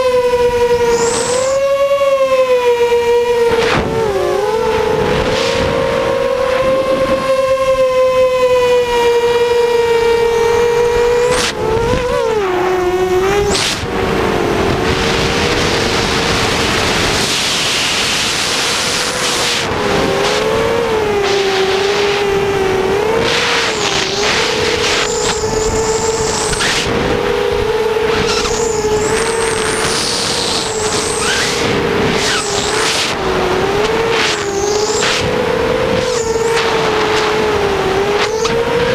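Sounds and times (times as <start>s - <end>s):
quadcopter motors whining: 0.0s - 38.9s
wind rushing over microphone: 3.4s - 8.0s, 10.5s - 38.9s.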